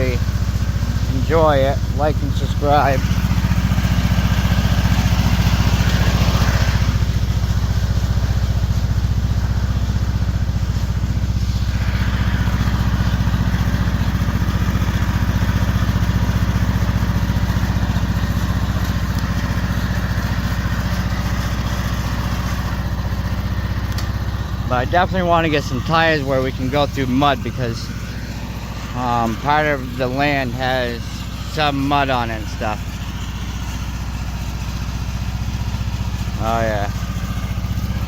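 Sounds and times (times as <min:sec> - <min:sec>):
riding lawn mower engine: 0:00.0 - 0:38.0.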